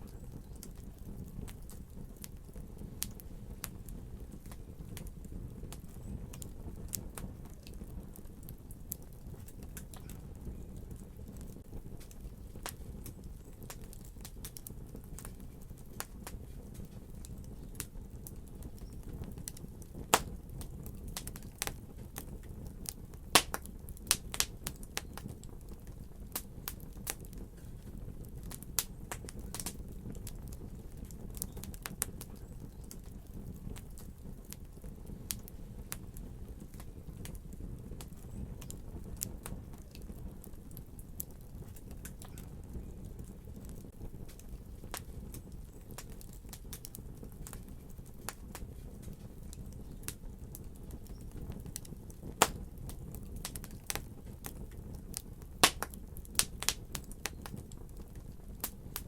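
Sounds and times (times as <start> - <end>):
fire crackling and popping: 0.0 - 59.0
low fire rumble: 0.0 - 59.0.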